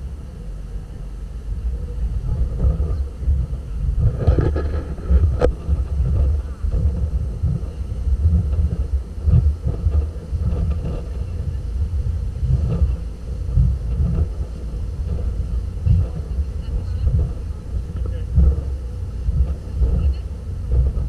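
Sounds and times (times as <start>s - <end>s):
boat engine: 0.0s - 21.0s
churning wake: 0.0s - 21.0s
wind on microphone: 0.0s - 21.0s.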